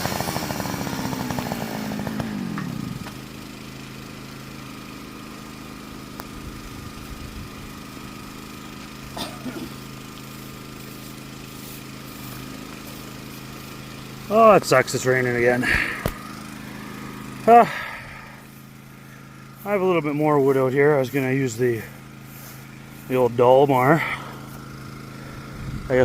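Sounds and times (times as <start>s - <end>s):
chainsaw engine idling: 0.0s - 26.0s.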